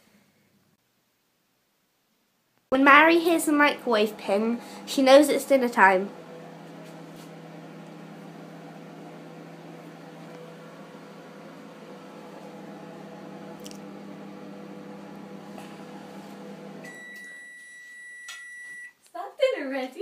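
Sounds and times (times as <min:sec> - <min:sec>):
microwave oven humming: 0:02.8 - 0:18.9.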